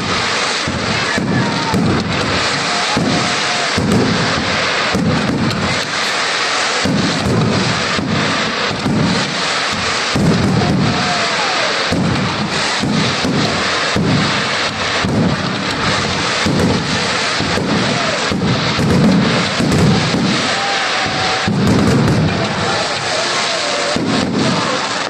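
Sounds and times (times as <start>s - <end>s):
fireworks bangs and crackling: 0.0s - 25.0s
fireworks whistles: 0.0s - 25.0s.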